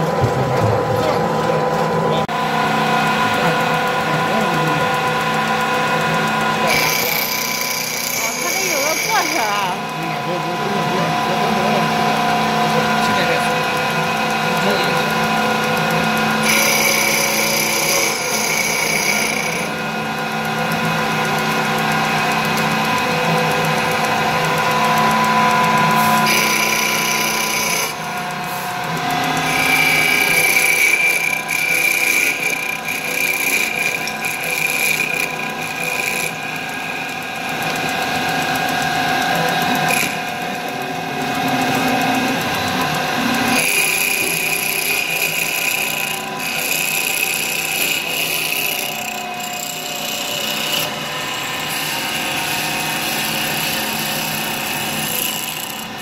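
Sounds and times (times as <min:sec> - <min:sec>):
lathe motor whine: 0:00.0 - 0:56.0
cutter rasping against wood: 0:03.0 - 0:56.0.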